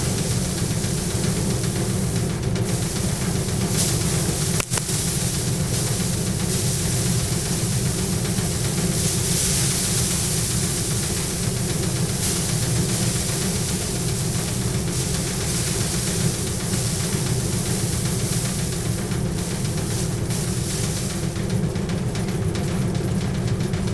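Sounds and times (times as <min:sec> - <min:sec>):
rushing hiss of stalks: 0:00.0 - 0:22.8
thresher machine hum: 0:00.0 - 0:23.6.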